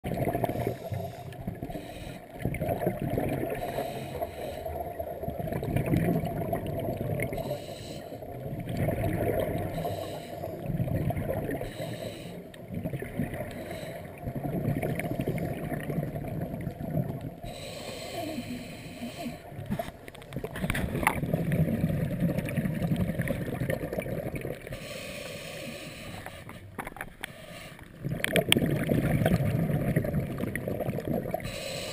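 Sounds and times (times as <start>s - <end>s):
underwater breath bubbling: 0.0s - 31.9s.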